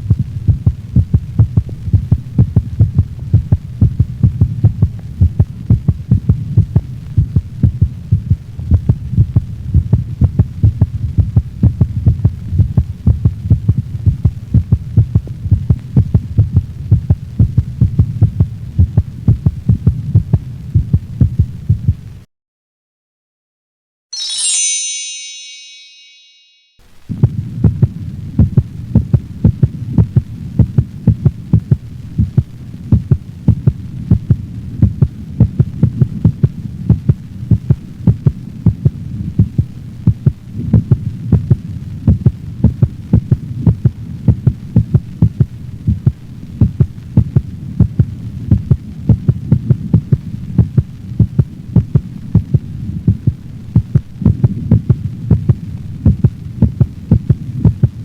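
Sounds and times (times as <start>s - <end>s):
dog heartbeat: 0.0s - 22.1s, 27.2s - 58.0s
steady low hum: 0.0s - 22.3s, 27.0s - 58.0s.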